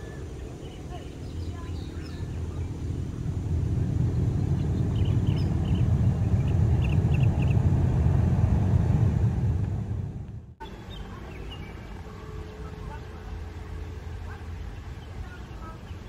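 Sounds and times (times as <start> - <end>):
jet engines deep rumble: 0.0 - 16.0.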